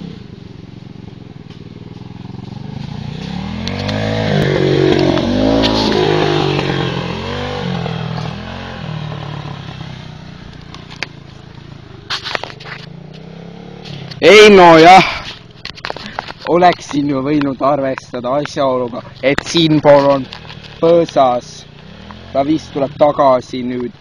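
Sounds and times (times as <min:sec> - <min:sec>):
small motorbike engine revving: 0:00.0 - 0:16.4, 0:18.9 - 0:23.8.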